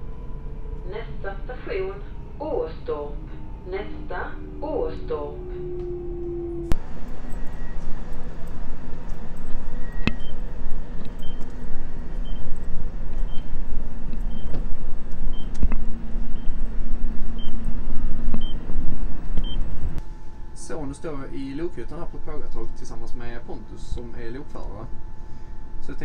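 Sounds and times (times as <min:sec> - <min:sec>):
electric train humming: 0:00.0 - 0:26.0.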